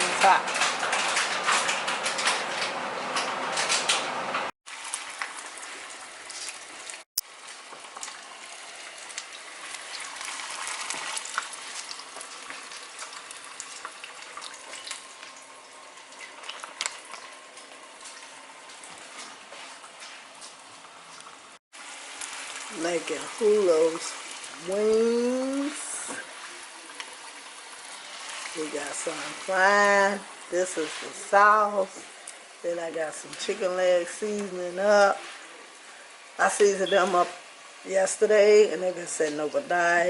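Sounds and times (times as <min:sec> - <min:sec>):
chicken frying in hot oil: 0:04.1 - 0:40.0.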